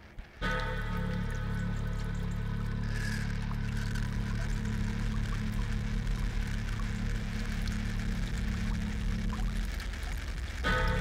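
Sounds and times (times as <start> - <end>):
low drone music: 0.0 - 11.0
water trickling and dripping: 0.2 - 11.0.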